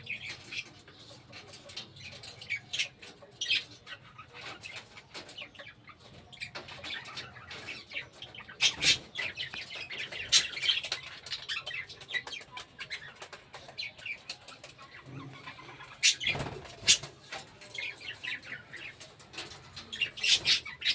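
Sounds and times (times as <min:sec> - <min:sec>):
birds chirping high calls: 0:01.6 - 0:20.9.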